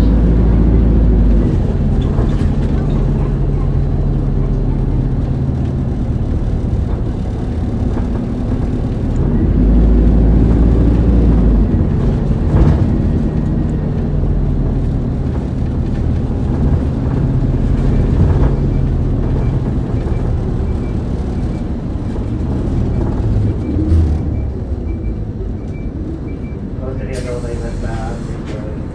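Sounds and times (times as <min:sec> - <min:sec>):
bus diesel engine running: 0:00.0 - 0:28.9
road rumble: 0:00.0 - 0:28.9.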